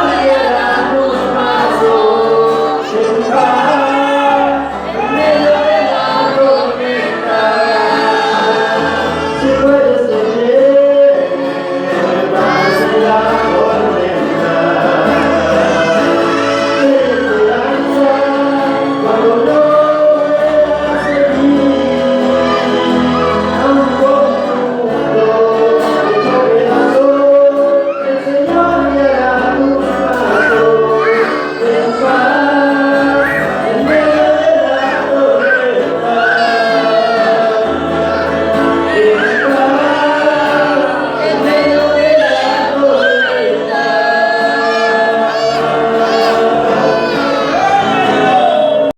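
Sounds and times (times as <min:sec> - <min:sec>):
choir singing: 0:00.0 - 0:48.9.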